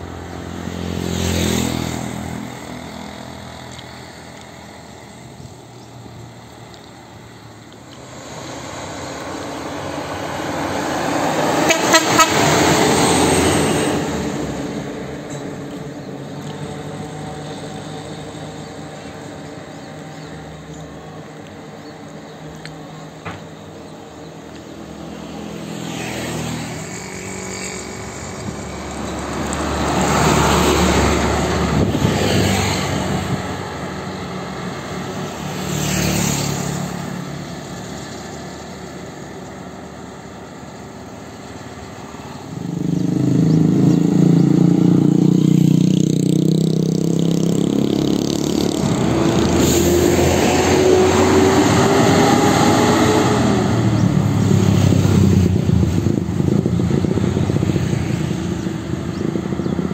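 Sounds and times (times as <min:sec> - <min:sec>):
diesel truck rumbling past: 0:00.0 - 0:59.9.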